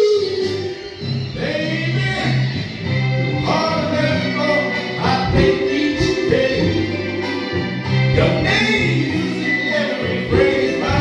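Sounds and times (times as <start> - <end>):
man singing into a microphone: 0.0 - 2.6, 3.4 - 7.4, 8.1 - 11.0
steady bass accompaniment: 0.0 - 11.0.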